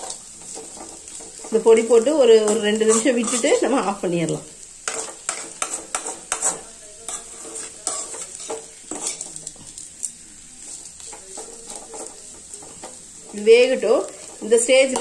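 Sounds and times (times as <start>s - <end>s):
metal spatula scraping a pan: 0.0s - 4.1s, 4.7s - 15.0s
oil sizzling: 0.0s - 15.0s.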